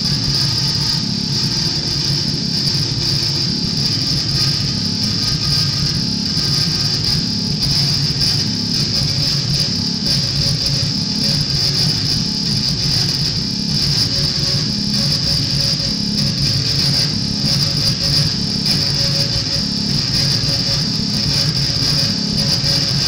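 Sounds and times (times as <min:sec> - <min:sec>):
loud high hiss: 0:00.0 - 0:23.0
low throbbing drone: 0:00.0 - 0:23.0.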